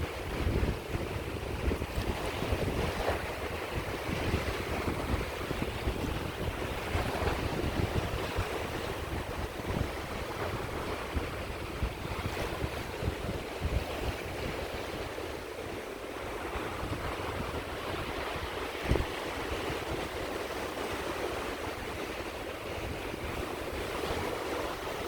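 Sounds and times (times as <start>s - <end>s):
sea waves washing onto shore: 0.0s - 25.0s
wind buffeting microphone: 0.0s - 25.0s.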